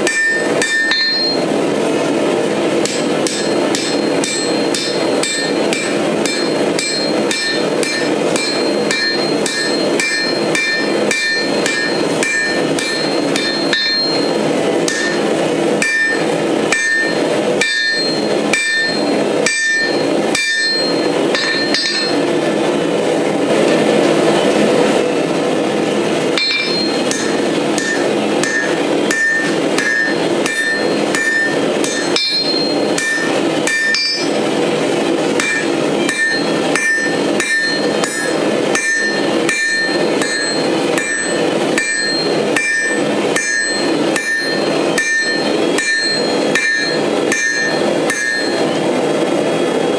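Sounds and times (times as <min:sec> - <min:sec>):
hammer striking anvil: 0:00.0 - 0:01.6, 0:02.7 - 0:22.4, 0:26.4 - 0:48.7
steady rushing noise: 0:00.0 - 0:49.9.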